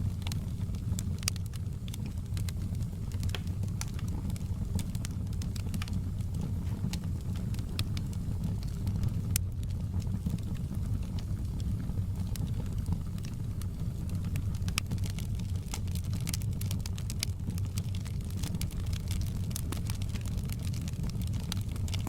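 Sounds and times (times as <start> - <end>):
fire crackling and popping: 0.0 - 22.0
fire rumbling in fireplace: 0.0 - 22.0.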